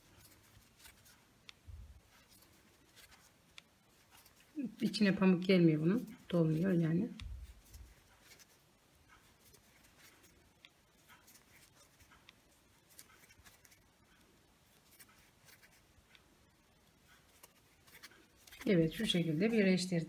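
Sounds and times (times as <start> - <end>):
faint clicks and rustles: 0.0 - 20.0.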